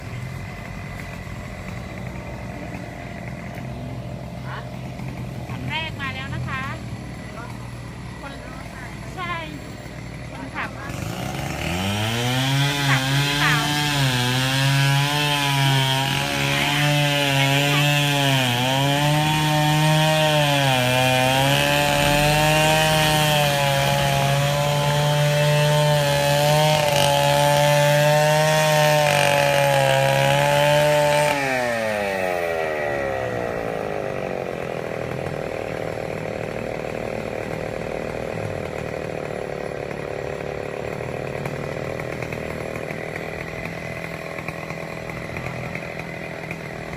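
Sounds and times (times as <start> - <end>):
small engine running: 0.0 - 46.9.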